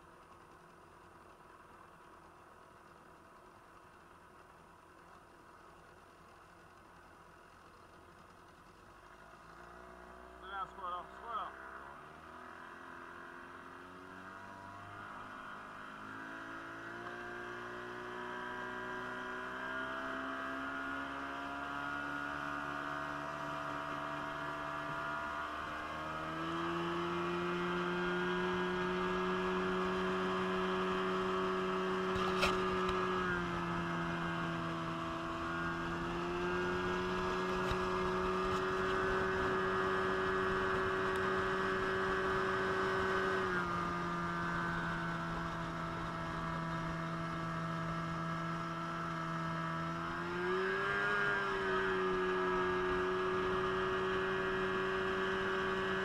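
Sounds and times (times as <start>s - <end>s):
outboard motor humming: 0.0s - 56.0s.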